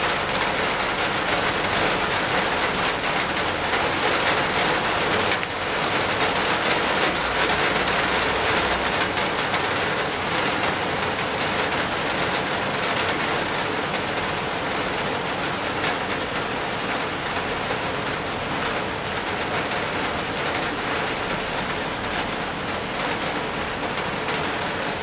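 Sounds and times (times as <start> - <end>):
heavy rain on rock and foliage: 0.0 - 25.0.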